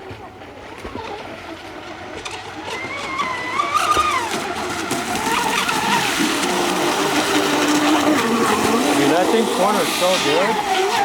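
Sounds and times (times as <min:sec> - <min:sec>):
electric motor whining: 0:02.1 - 0:11.0.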